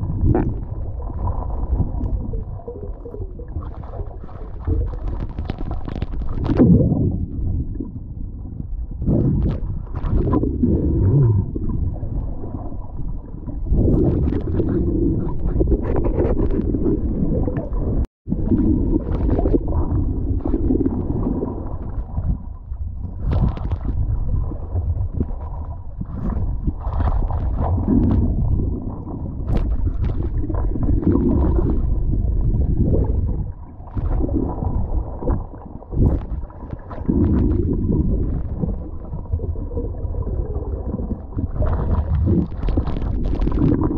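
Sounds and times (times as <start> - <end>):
underwater rumble and sloshing: 0.0 - 43.9.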